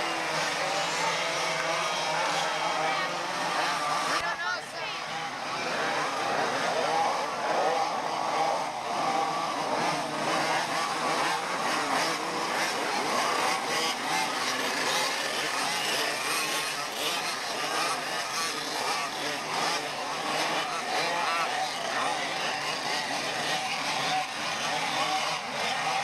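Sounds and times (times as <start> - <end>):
go-kart engines racing past: 0.0 - 26.0.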